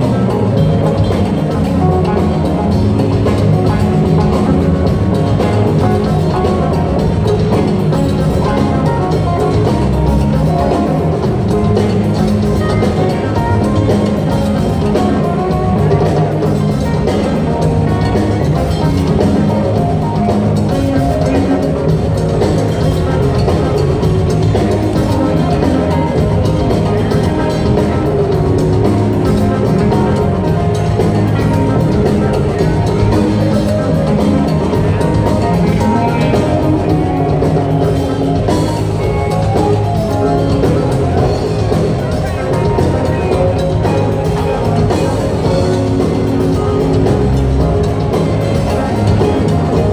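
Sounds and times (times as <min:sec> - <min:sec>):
drum kit: 0:00.0 - 0:49.9
electric and acoustic guitars: 0:00.0 - 0:49.9
keyboards: 0:00.0 - 0:49.9
live rock band playing: 0:00.0 - 0:49.9.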